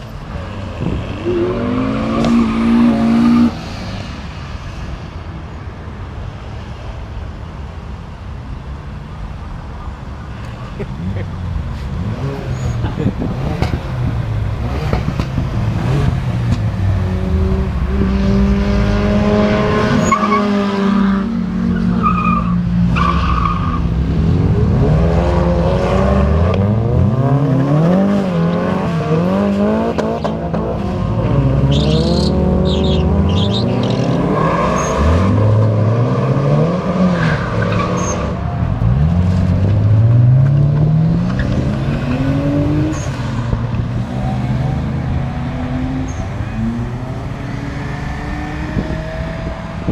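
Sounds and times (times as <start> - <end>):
car engines revving hard: 0.0 - 5.0, 10.4 - 49.9.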